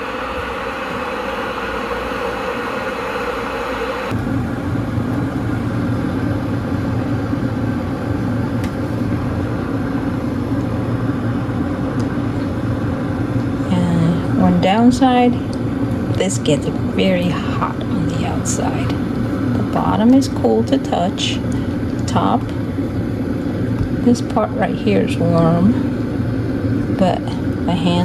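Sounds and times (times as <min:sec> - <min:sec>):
electric kettle heating water: 0:00.0 - 0:28.0.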